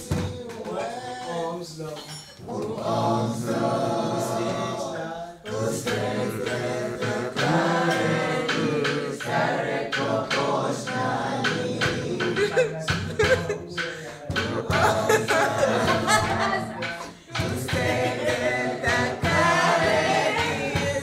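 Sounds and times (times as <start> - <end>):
group singing unaccompanied: 0.0 - 21.0.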